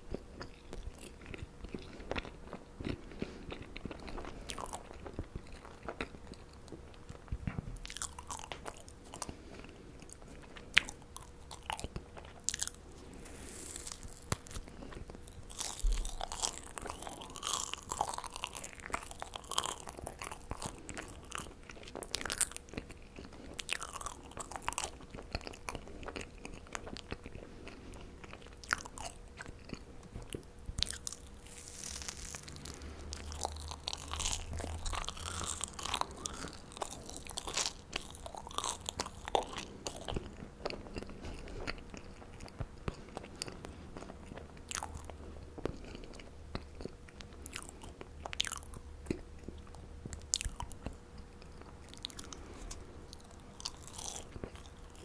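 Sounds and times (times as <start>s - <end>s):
person chewing marshmallows: 0.0s - 55.0s.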